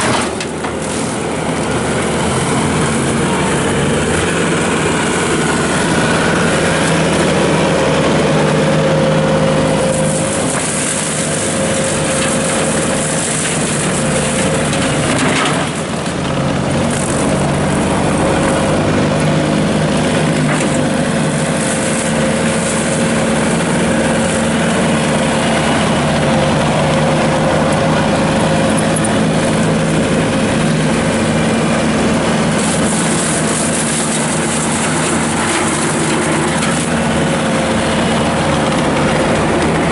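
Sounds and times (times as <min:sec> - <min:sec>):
brush cutter motor whine: 0:00.0 - 0:39.9
skid steer engine drone: 0:00.0 - 0:39.9.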